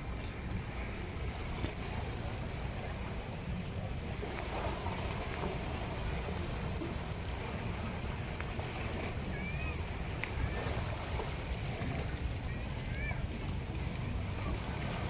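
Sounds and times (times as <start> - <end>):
waves lapping on beach: 0.0 - 15.0
wind rumble on microphone: 0.0 - 15.0.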